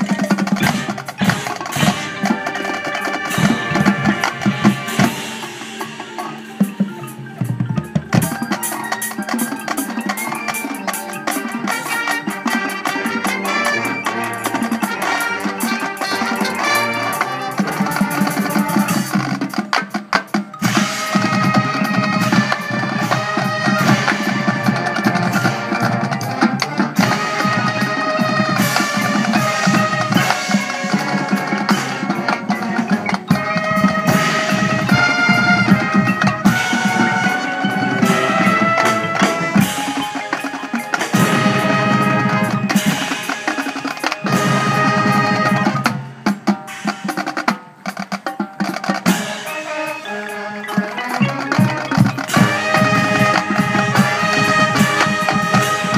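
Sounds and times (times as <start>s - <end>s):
brass and wind chords: 0.0s - 19.5s, 20.6s - 47.4s, 49.0s - 55.9s
snare drum rolls: 0.0s - 55.9s.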